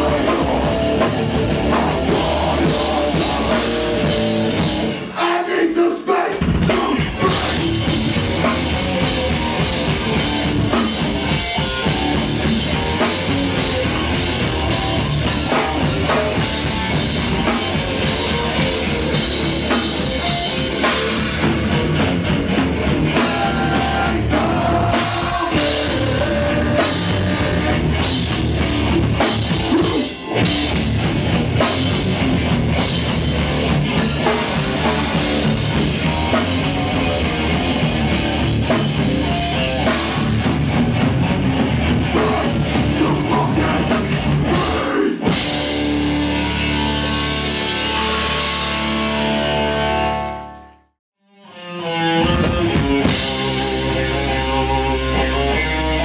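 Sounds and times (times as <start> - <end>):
heavy rock band playing: 0.0 - 50.9, 51.5 - 56.0.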